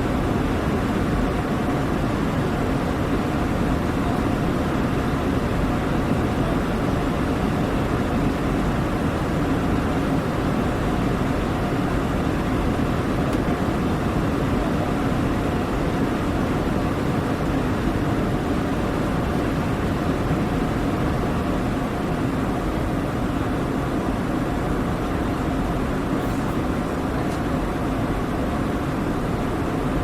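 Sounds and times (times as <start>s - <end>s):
jet engine drone: 0.0s - 30.0s.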